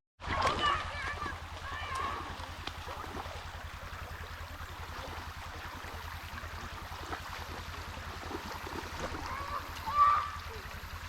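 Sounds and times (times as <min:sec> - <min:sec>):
creek water babbling: 0:00.2 - 0:11.0.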